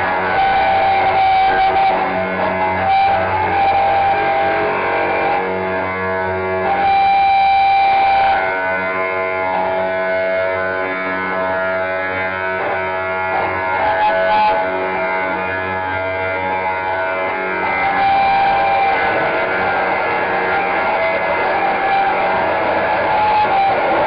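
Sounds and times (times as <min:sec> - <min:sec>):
droning noise music: 0:00.0 - 0:24.0
high held tone: 0:00.0 - 0:24.0.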